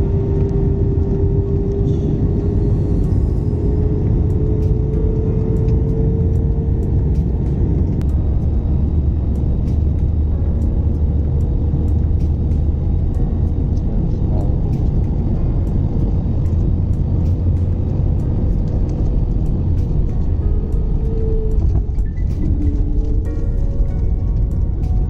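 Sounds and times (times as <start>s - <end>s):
vehicle rumble from inside: 0.0s - 25.0s.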